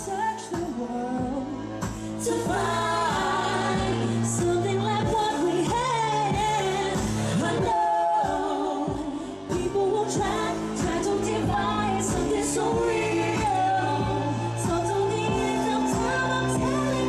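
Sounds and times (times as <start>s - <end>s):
backing track with bass and beat: 0.0s - 17.0s
woman singing into a microphone: 0.0s - 17.0s.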